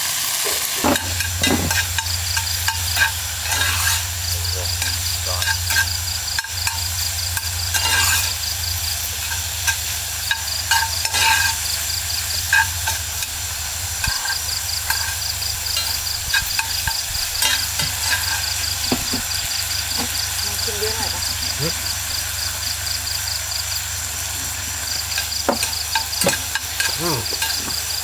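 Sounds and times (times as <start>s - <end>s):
rain falling: 0.0s - 11.0s, 11.6s - 28.0s
insect chirring: 0.2s - 28.0s.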